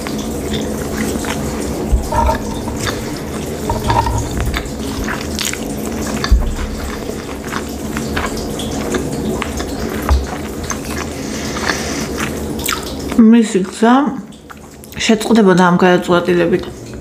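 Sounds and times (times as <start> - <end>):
low steady hum: 0.0 - 14.7
chewing and eating: 0.0 - 15.4.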